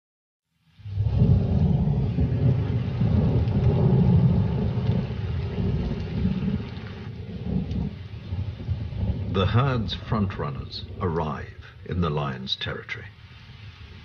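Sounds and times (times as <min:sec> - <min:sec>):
steady rain: 0:00.5 - 0:14.0
thunder rolling: 0:00.8 - 0:14.0.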